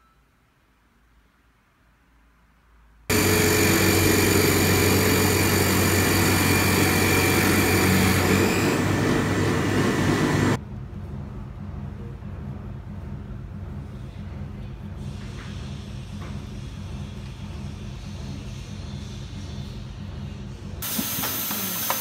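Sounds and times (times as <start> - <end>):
industrial machinery hum and whine: 3.1 - 22.0.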